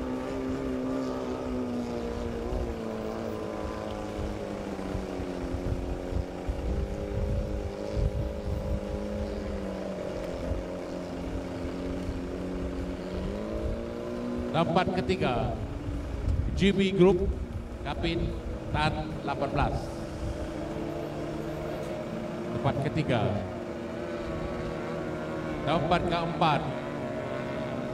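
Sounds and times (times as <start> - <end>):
outboard motor drone: 0.0 - 27.9.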